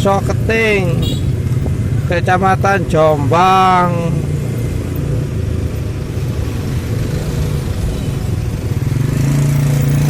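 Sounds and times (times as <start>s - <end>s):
vehicle engines running in traffic: 0.0s - 10.0s.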